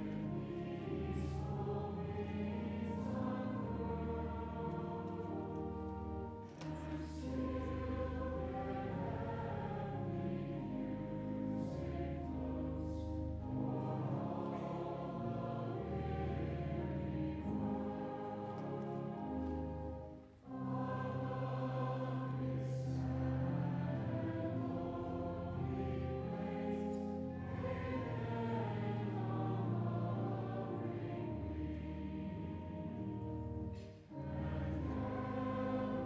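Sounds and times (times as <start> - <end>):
choir singing sustained chords: 0.0 - 36.0.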